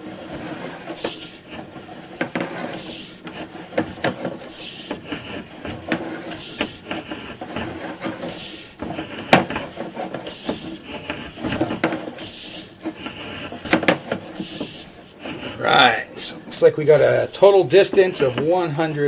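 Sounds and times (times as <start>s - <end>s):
cable rubbing and clicking: 0.0s - 19.0s.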